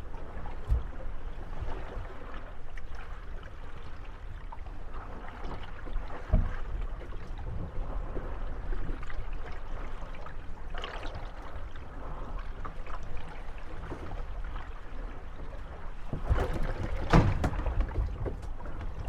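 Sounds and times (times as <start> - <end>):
water lapping against boats: 0.0 - 19.0.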